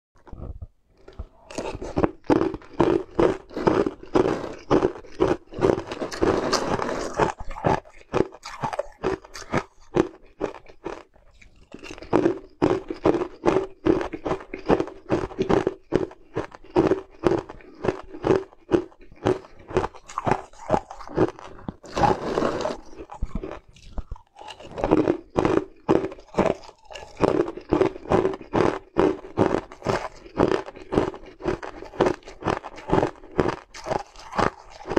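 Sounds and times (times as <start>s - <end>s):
ice cubes being chewed: 0.2s - 34.9s.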